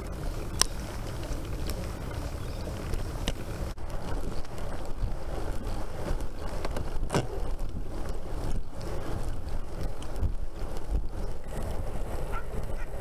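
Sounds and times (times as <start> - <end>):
bicycle rolling rumble: 0.0 - 13.0
wind buffeting microphone: 0.0 - 13.0.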